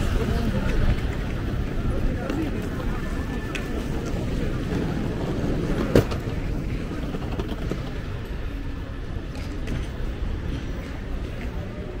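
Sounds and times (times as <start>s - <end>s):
low city street rumble: 0.0s - 12.0s.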